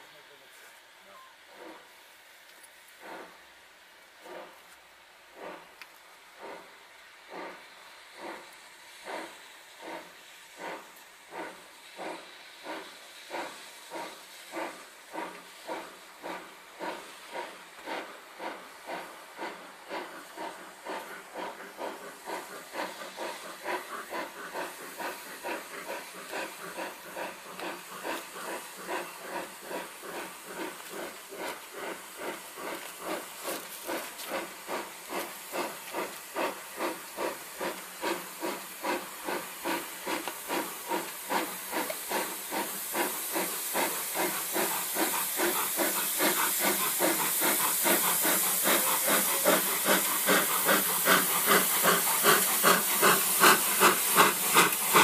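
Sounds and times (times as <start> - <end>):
steam hiss: 0.0 - 55.0
steam locomotive exhaust beats: 0.0 - 55.0.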